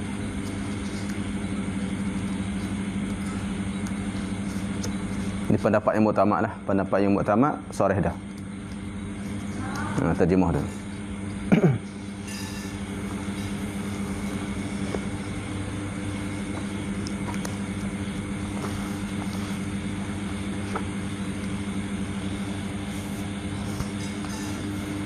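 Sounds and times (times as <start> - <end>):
machine hum with low drone: 0.0 - 25.0.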